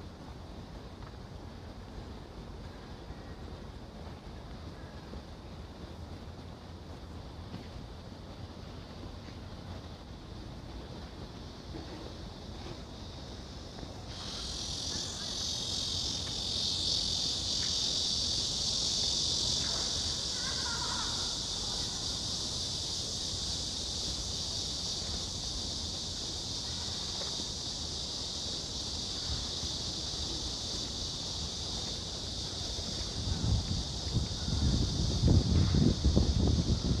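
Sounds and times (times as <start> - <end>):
insects buzzing: 0.0 - 37.0.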